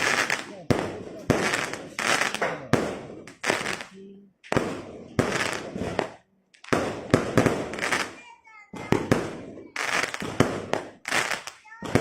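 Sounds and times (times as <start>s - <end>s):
fireworks bangs with crackle: 0.0s - 12.0s.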